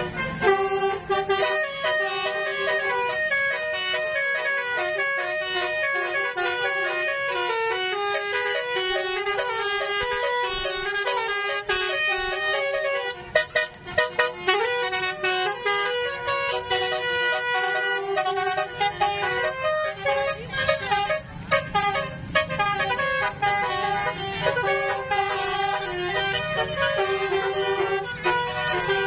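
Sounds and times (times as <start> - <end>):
multi-tone vehicle horn melody: 0.0 - 29.0.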